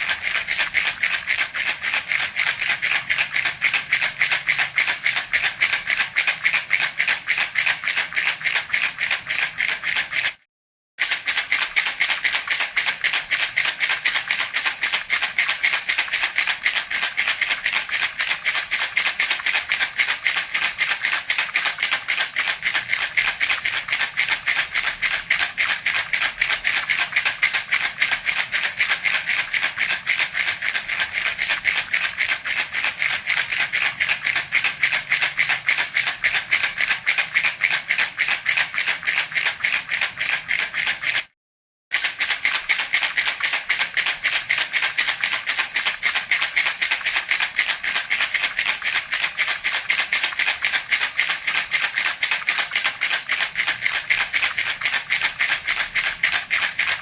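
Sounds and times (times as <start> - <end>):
baby's rattle shaking: 0.0 - 10.4, 11.0 - 57.0.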